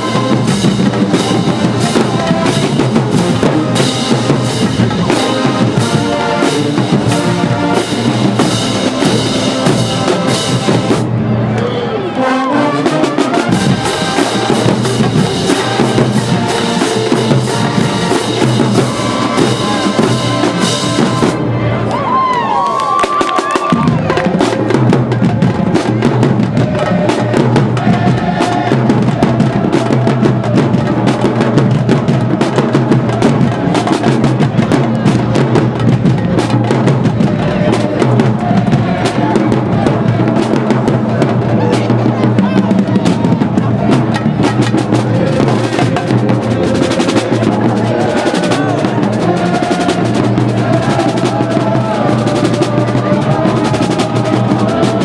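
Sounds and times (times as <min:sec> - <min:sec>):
brass instruments playing: 0:00.0 - 0:55.0
marching drumline: 0:00.0 - 0:55.0.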